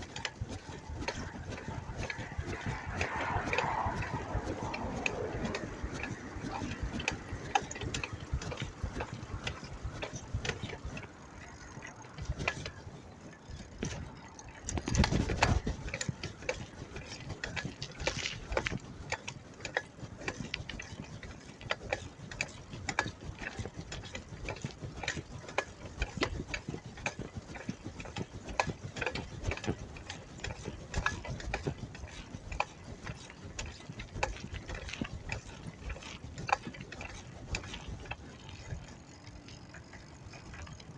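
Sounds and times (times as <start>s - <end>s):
rush of wind: 0.0s - 40.2s
bicycle freewheel ticking: 0.0s - 40.9s.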